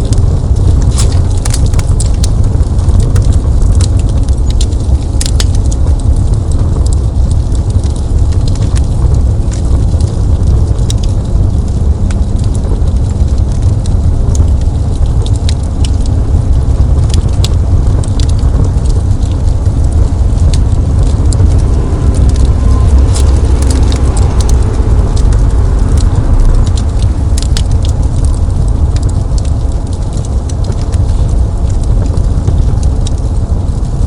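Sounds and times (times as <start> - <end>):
fire crackling and popping: 0.0 - 34.0
fire flames rumbling: 0.0 - 34.0.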